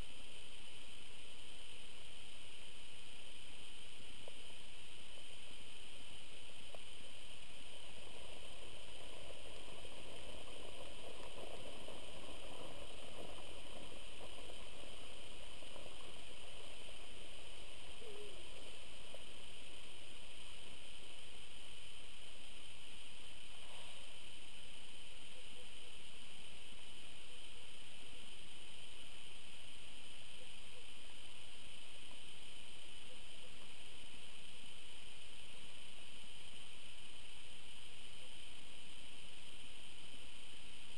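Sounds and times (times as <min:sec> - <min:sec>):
microphone hiss: 0:00.0 - 0:40.9.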